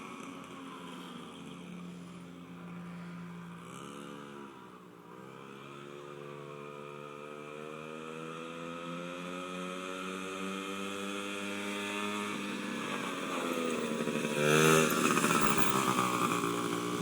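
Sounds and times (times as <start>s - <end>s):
small two-stroke engine running: 0.0s - 17.0s.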